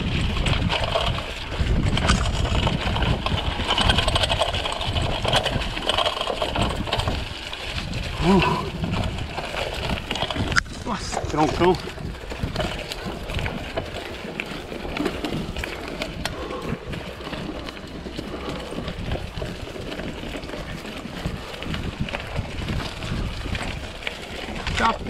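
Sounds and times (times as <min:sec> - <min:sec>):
bike rattles and clicks: 0:00.0 - 0:25.0
bike tyres rumbling on dirt: 0:00.0 - 0:25.0.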